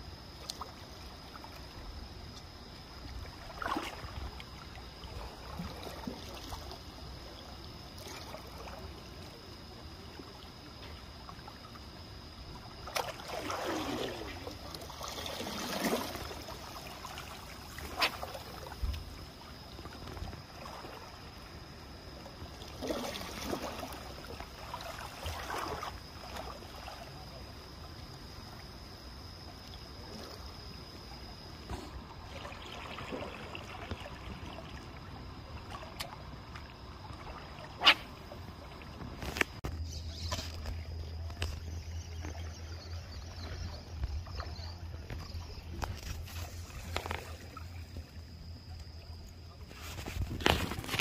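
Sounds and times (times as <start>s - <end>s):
water lapping and sloshing: 0.0s - 51.0s.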